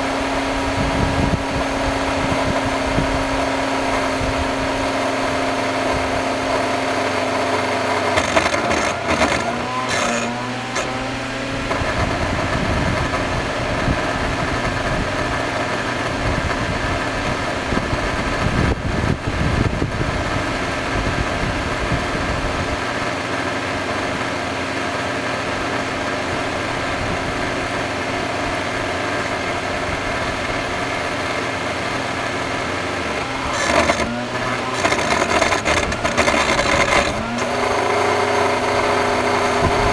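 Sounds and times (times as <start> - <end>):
vacuum cleaner clattering: 0.0 - 39.9
vacuum cleaner motor humming: 0.0 - 39.9.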